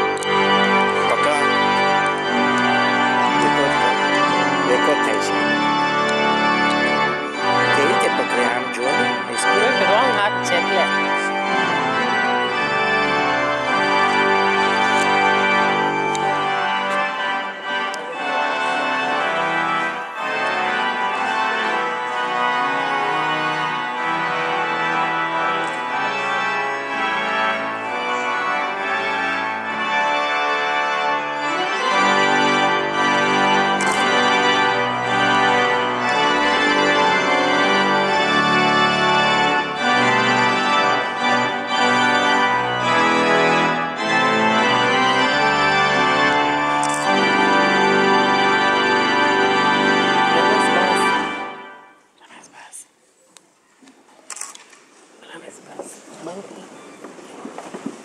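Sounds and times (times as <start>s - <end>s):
organ playing slow chords: 0.0s - 52.0s.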